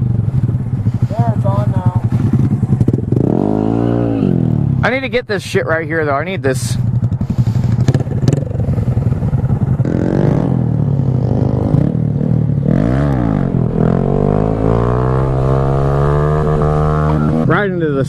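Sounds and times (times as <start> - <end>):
motorcycle engine revving: 0.0 - 4.8, 6.9 - 18.0.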